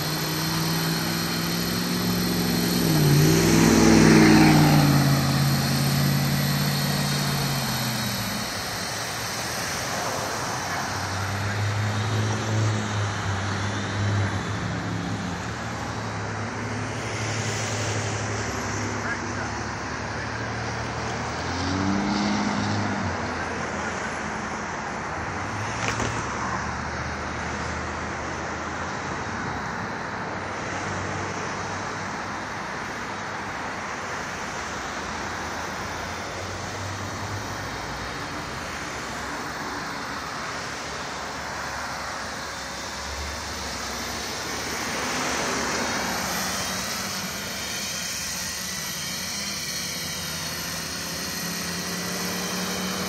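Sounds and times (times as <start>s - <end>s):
road traffic noise: 0.0s - 53.0s
vehicles passing: 0.0s - 53.0s.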